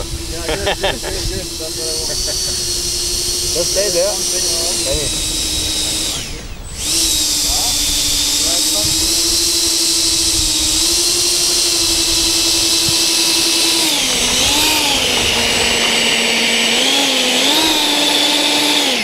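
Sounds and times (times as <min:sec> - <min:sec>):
electric ducted fans whining: 0:00.0 - 0:19.0.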